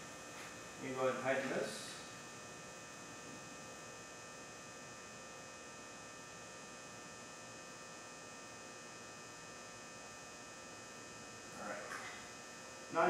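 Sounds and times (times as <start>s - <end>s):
faint electrical hum with hiss: 0.0s - 13.0s.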